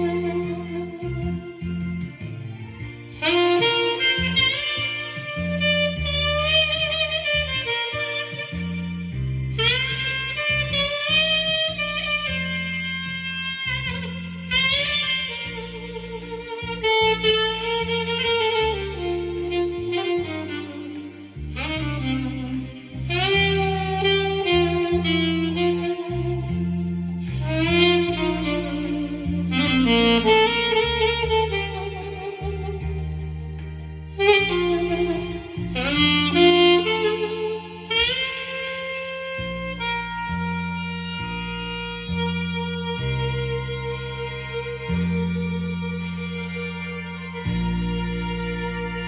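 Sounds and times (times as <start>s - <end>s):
bass line accompaniment: 0.0s - 49.0s
saxophone melody: 0.0s - 49.0s.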